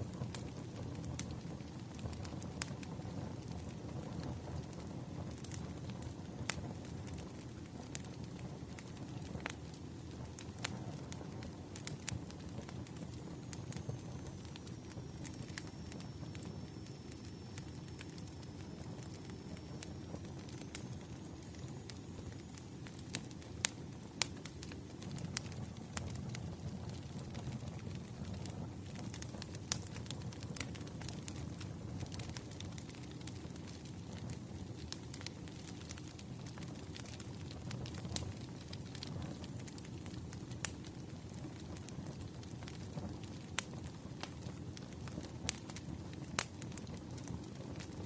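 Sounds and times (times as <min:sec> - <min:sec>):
campfire crackling: 0:00.0 - 0:48.0
fire popping: 0:00.0 - 0:48.0.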